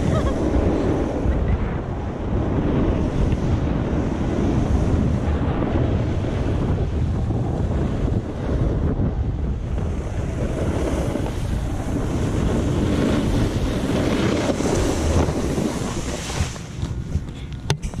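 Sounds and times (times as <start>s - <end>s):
snowboard sliding over snow: 0.0s - 18.0s
wind rushing over microphone: 0.0s - 18.0s.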